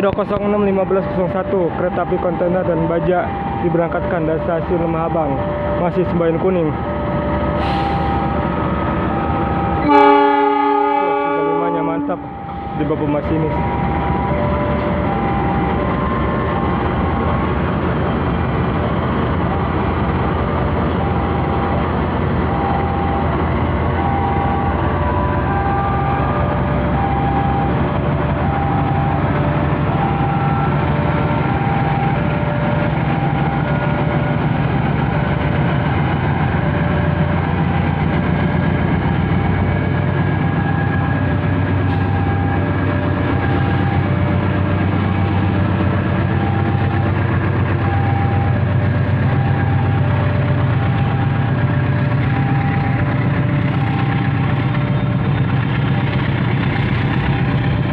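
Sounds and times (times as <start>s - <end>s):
diesel locomotive engine running: 0.0s - 57.9s.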